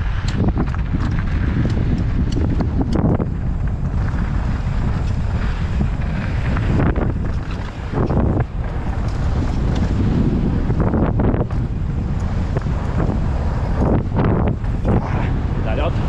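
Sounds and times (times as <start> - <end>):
bike tyres rolling over dirt: 0.0 - 16.0
wind rushing over microphone: 0.0 - 16.0.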